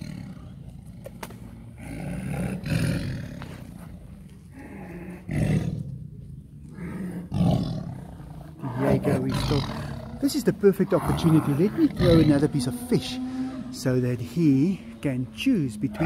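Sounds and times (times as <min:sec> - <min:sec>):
tiger roaring growls: 0:00.0 - 0:16.0.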